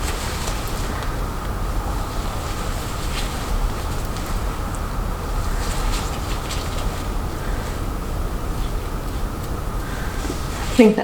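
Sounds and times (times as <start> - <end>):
low rumbling fan noise: 0.0 - 11.0.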